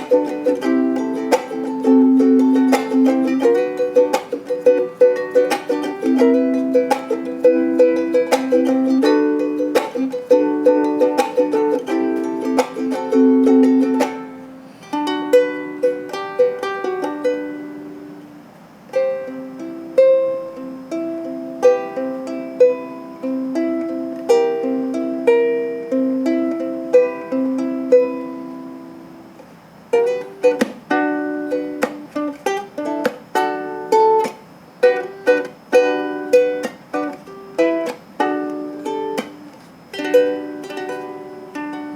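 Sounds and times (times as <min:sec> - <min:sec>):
ukulele playing: 0:00.0 - 0:41.9.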